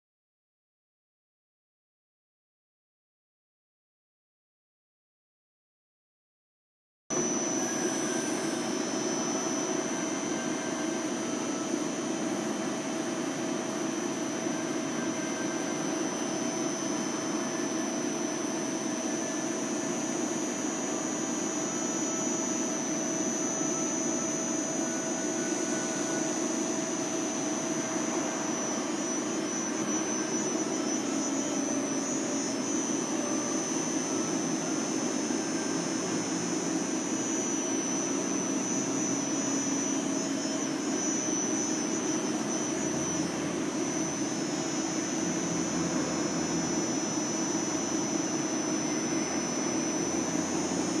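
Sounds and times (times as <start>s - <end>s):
high-pitched machine whine: 7.1s - 51.0s
milling machine humming: 7.1s - 51.0s.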